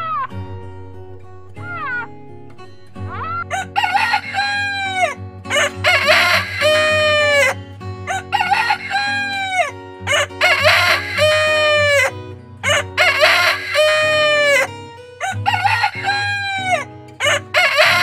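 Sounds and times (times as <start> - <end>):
background music sustained tones: 0.0 - 18.0
rooster crowing: 3.3 - 18.0.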